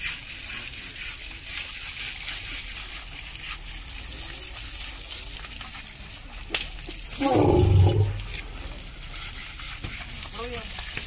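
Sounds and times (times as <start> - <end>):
hose water spraying and splashing: 0.0 - 11.0.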